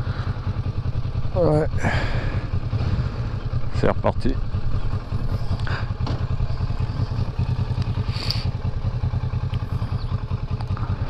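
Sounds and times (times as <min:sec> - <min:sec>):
motorcycle engine throbbing: 0:00.0 - 0:11.0.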